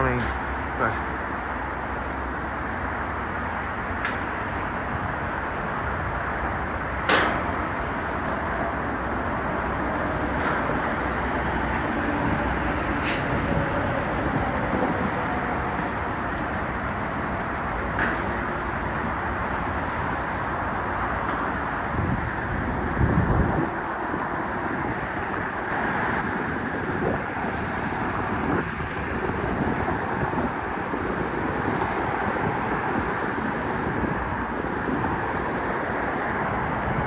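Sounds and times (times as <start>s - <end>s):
road traffic noise: 0.0s - 37.0s.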